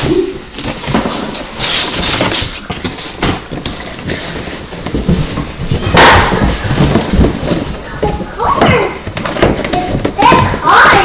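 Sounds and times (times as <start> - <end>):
cardboard packaging rustling: 0.0 - 11.0.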